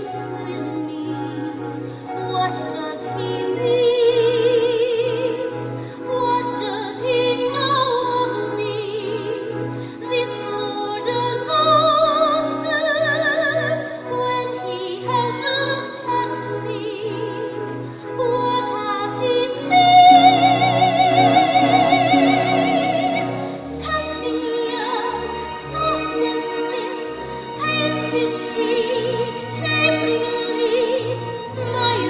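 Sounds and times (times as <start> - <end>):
orchestral accompaniment: 0.0 - 32.0.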